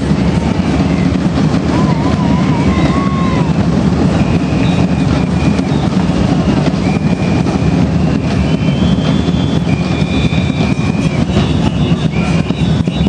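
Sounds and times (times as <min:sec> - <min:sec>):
bass drums with cymbals beating: 0:00.0 - 0:13.0
whistles blowing: 0:00.3 - 0:13.0.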